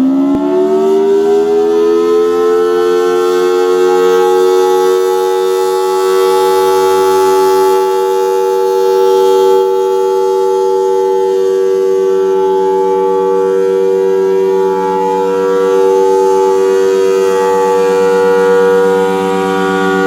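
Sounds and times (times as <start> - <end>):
tornado siren two-note chord: 0.0 - 20.0.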